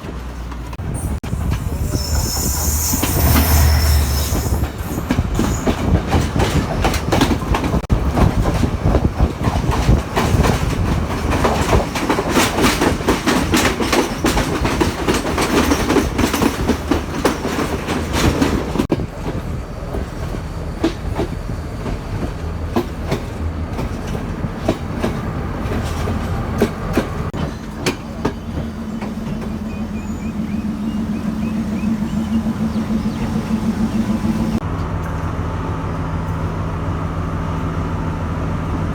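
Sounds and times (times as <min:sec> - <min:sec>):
train wheels clicking on rails: 0:00.0 - 0:35.4
train rumble: 0:00.0 - 0:38.9.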